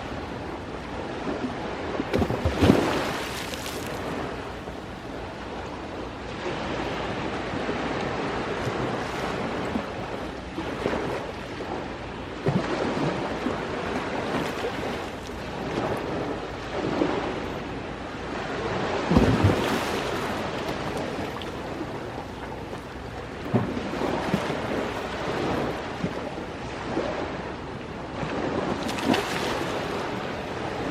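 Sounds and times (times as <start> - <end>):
ocean surf washing ashore: 0.0 - 30.9.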